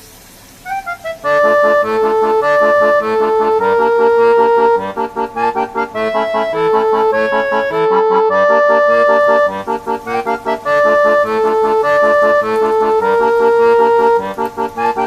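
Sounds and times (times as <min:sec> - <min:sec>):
accordion-like melody: 0:00.7 - 0:15.0
quick rhythmic accompaniment: 0:00.7 - 0:15.0.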